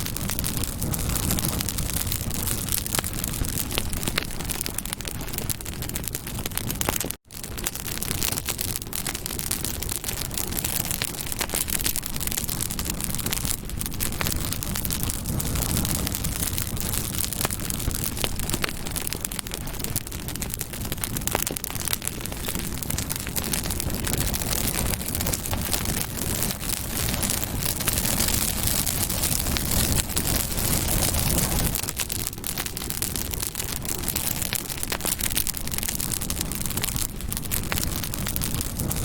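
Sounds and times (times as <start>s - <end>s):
campfire crackling and popping: 0.0s - 39.0s
low rumble of flames: 0.0s - 39.0s.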